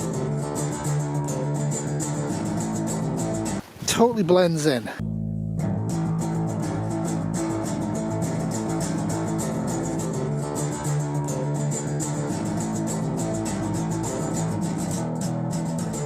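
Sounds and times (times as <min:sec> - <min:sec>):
guitar music with steady beat: 0:00.0 - 0:03.6, 0:05.0 - 0:16.0.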